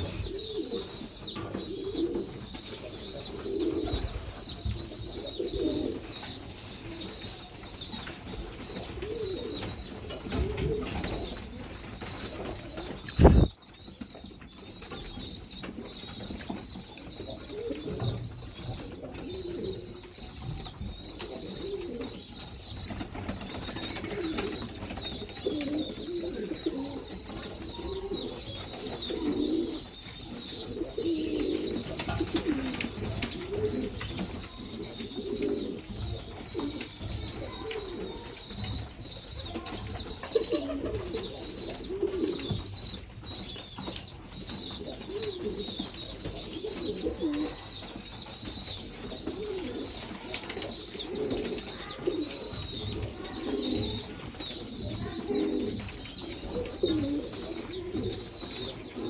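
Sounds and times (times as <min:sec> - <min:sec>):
pigeons cooing: 0:00.0 - 0:59.0
small birds chattering: 0:00.0 - 0:59.0.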